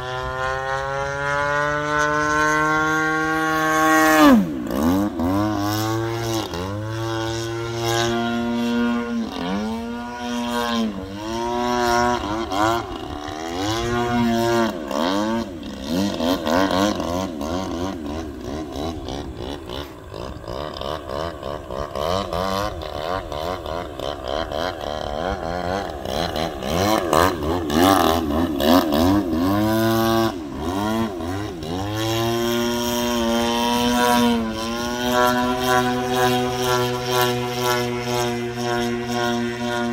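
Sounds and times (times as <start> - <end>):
model plane two-stroke engine: 0.0 - 39.9.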